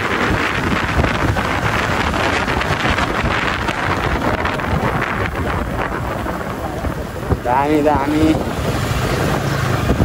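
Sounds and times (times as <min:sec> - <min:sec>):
motorcycle running: 0:00.0 - 0:10.0
wind buffeting microphone: 0:00.0 - 0:10.0.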